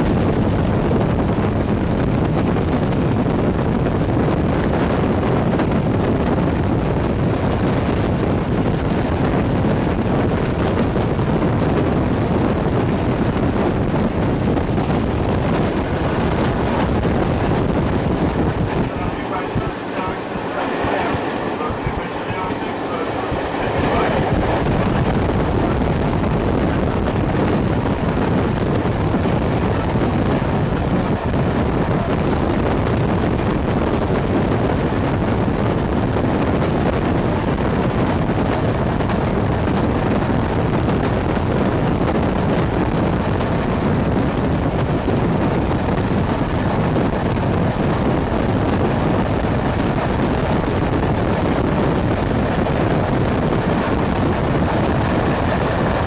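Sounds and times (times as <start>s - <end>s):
train running noise: 0.0s - 56.0s
wind rushing on microphone: 0.0s - 56.0s.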